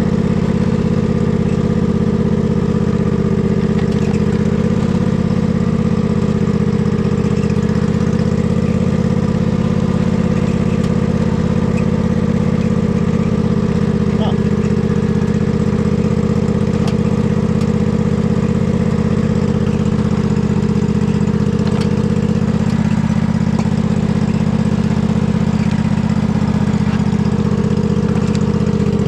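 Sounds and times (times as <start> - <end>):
riding mower engine running: 0.0 - 29.0.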